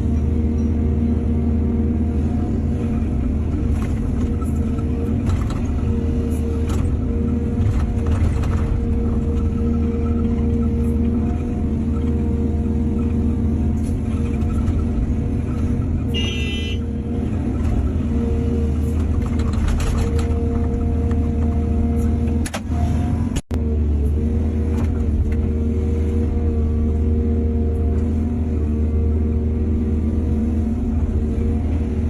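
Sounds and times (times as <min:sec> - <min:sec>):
diesel engine running under load: 0:00.0 - 0:32.0.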